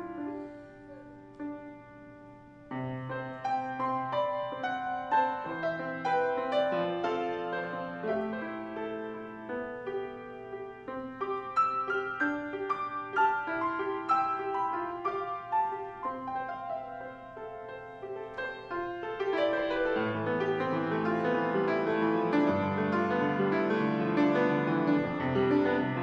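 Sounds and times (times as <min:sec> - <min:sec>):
classical grand piano piece: 0:00.0 - 0:26.0.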